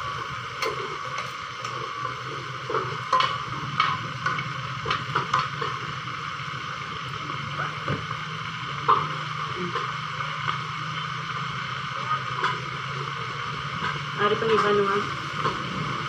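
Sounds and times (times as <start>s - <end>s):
food sizzling in frying pan: 0.0s - 16.0s
low hum: 0.0s - 16.0s.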